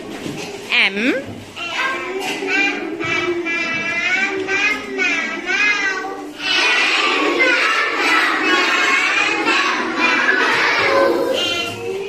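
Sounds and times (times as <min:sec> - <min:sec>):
children singing in unison: 0:01.6 - 0:12.0.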